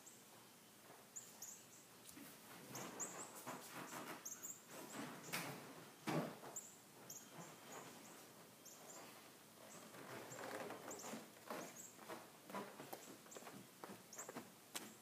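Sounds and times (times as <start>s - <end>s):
small birds chirping: 1.1s - 5.5s, 6.4s - 12.2s, 12.8s - 15.0s.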